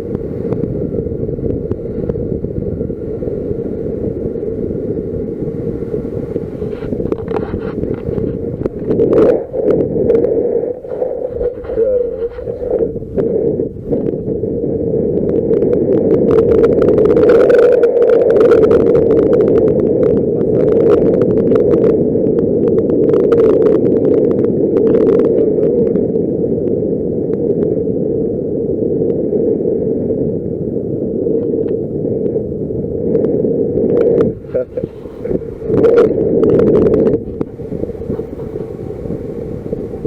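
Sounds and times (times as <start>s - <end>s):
faint crackling: 0.0s - 27.8s, 31.2s - 40.0s
wind rushing over microphone: 0.0s - 40.0s.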